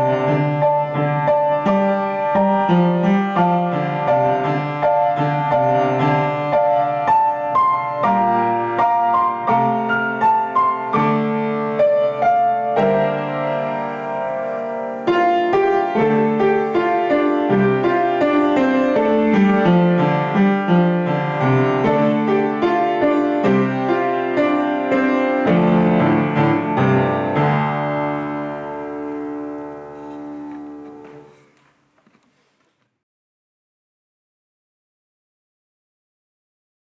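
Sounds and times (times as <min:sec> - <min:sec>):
upright piano playing: 0:00.0 - 0:31.6.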